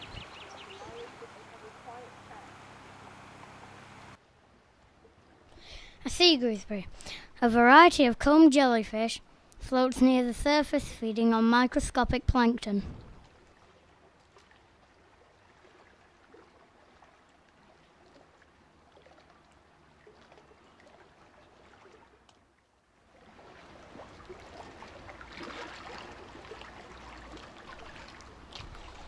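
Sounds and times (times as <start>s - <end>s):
moving water: 0.0s - 7.4s, 11.8s - 29.0s.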